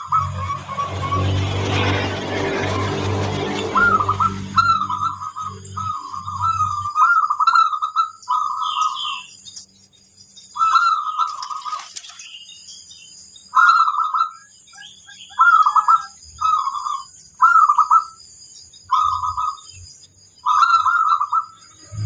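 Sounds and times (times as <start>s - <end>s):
dove cooing trills: 0.0s - 9.3s, 10.6s - 12.1s, 13.5s - 18.2s, 18.9s - 19.8s, 20.4s - 22.0s.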